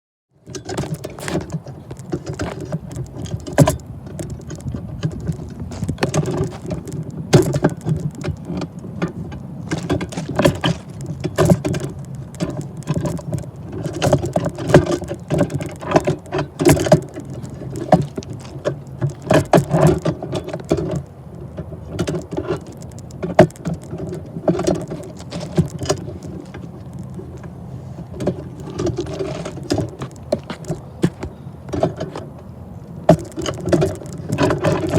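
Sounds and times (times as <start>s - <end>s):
wheels clanking and rattling: 0.4s - 34.9s.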